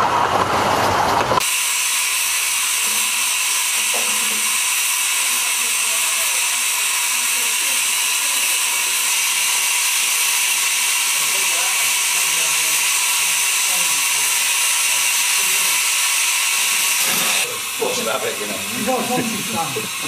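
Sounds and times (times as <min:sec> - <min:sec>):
steam hissing from safety valve: 0:01.4 - 0:20.0.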